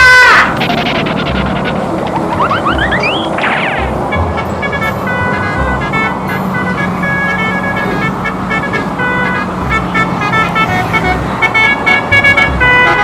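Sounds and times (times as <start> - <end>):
car horn toots: 0.0 - 13.0
road traffic rumble: 0.0 - 13.0.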